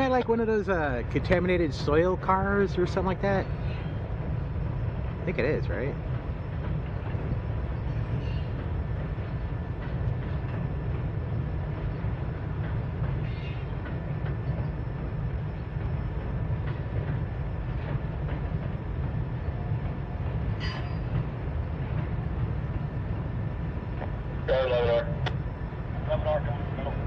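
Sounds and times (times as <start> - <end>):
train wheels rumbling on bridge: 0.0 - 27.0.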